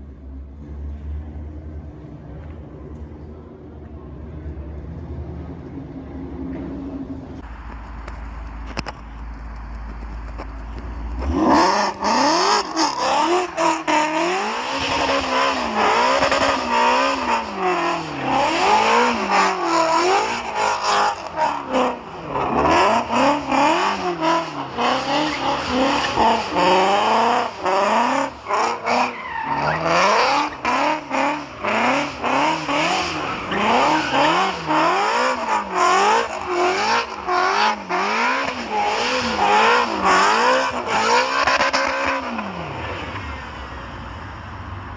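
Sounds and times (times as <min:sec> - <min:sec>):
car engine revving: 0:07.4 - 0:43.7.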